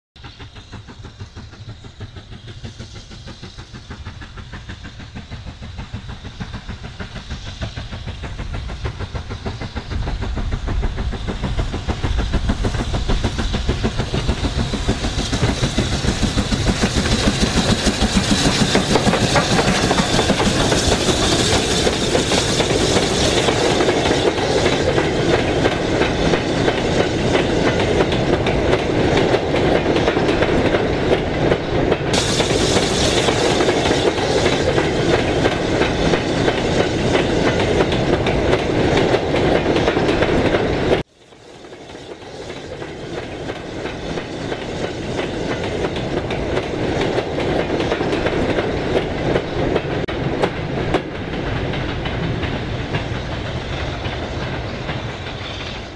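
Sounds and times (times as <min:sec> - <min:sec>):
train wagons clickety-clack: 0:00.2 - 0:55.9.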